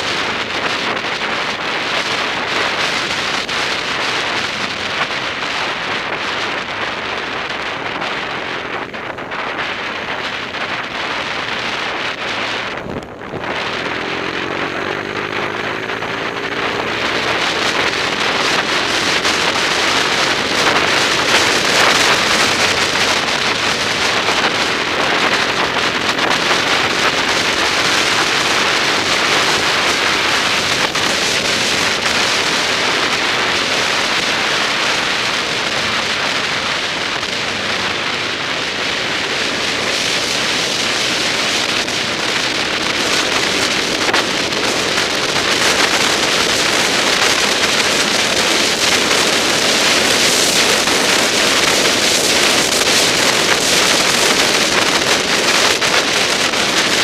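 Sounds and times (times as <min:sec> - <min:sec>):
quad bike engine: 0:00.0 - 0:57.0
tyres on gravel: 0:00.0 - 0:57.0
wind noise: 0:00.0 - 0:57.0.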